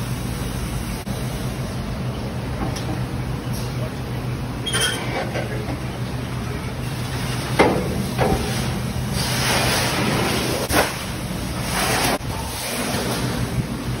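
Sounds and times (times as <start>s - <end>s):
shop noise with low hum: 0.0s - 14.0s.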